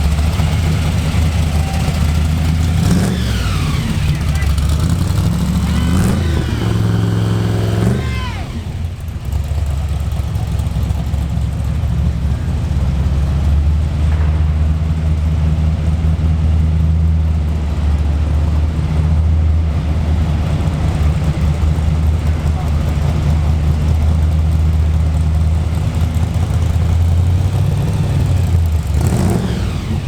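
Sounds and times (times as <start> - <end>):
engine idling with low rumble: 0.0 - 30.0.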